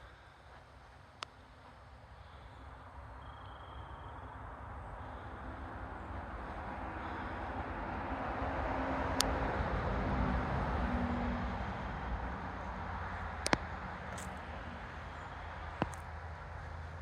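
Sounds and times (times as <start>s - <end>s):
vehicle approaching with low hum: 0.0s - 17.0s.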